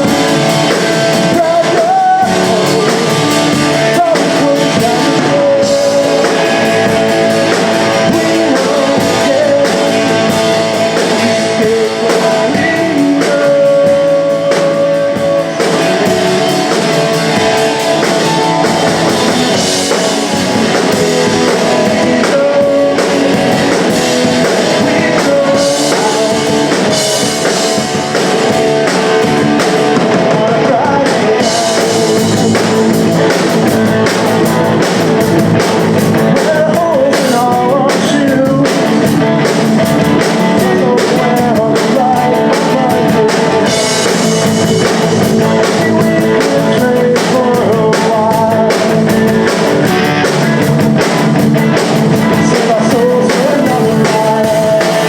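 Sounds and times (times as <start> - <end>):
punk rock band playing live: 0.0 - 55.0.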